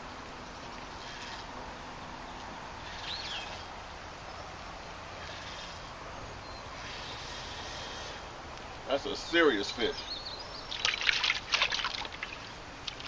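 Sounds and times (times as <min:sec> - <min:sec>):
bird chirp: 0:00.0 - 0:04.6, 0:05.2 - 0:08.3, 0:08.9 - 0:13.0
faint high insect tones: 0:00.0 - 0:13.0
outdoor background hiss: 0:00.0 - 0:13.0.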